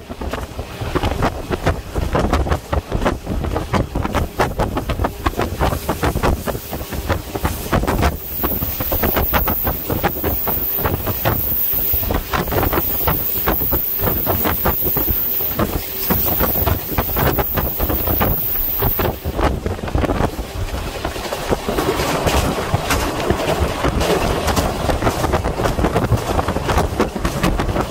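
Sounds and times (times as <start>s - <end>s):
train wheels rumbling and clattering: 0.0s - 27.9s
wind buffeting microphone: 0.0s - 27.9s.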